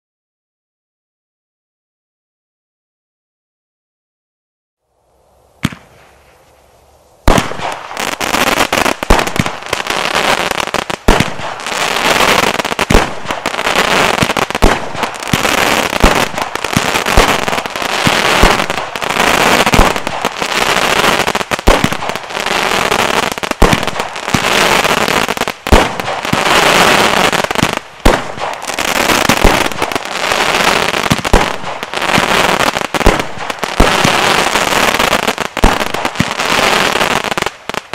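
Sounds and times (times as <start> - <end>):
firework hiss: 5.4 - 37.9
firework crackling: 5.5 - 37.9
firework bangs: 5.6 - 6.6, 7.2 - 37.9.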